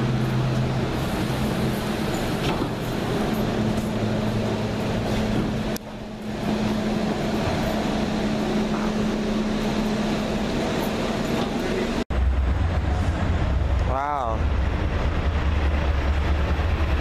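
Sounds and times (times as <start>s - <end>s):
railcar blowers humming: 0.0s - 17.0s.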